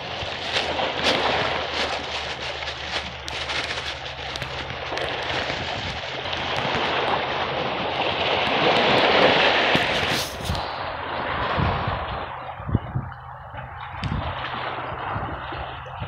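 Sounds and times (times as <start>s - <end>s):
steady low hum: 0.0s - 16.0s
wind on microphone: 0.0s - 16.0s.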